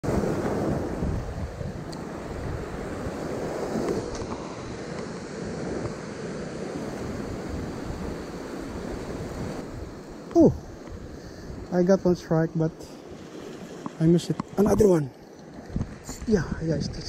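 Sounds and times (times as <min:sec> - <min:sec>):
waves breaking on rocks: 0:00.0 - 0:16.8
wind buffeting microphone: 0:00.0 - 0:17.0.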